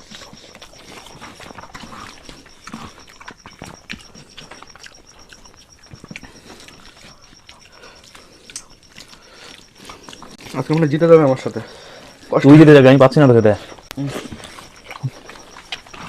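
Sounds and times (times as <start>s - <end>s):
wet chewing: 0.0s - 16.0s.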